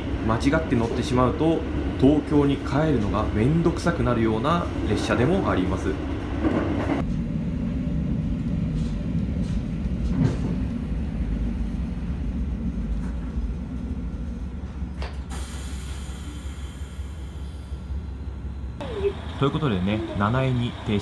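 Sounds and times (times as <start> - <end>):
train engine and wheels rumbling: 0.0 - 21.0.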